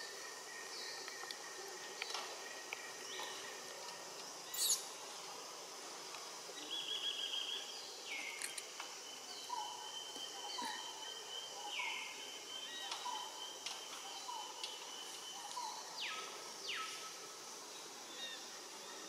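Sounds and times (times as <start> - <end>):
steady high insect tone: 0.0 - 19.0.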